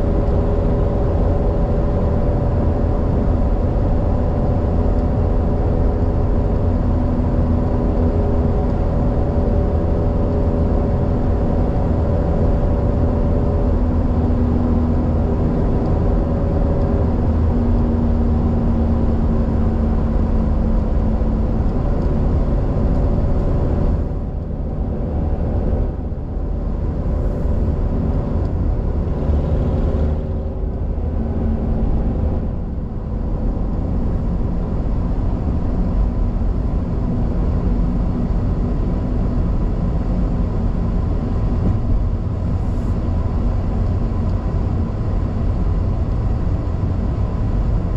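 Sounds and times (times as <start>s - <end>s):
car road noise rumble: 0.0s - 47.9s
faint engine tones: 0.0s - 47.9s.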